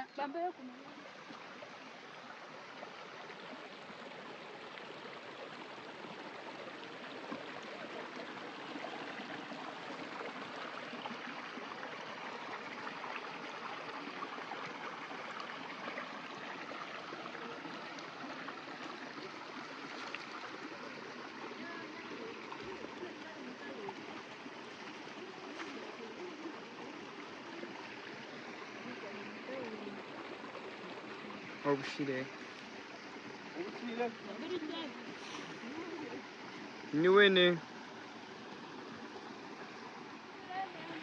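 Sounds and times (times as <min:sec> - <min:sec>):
stream water running over rocks: 0:00.0 - 0:41.0.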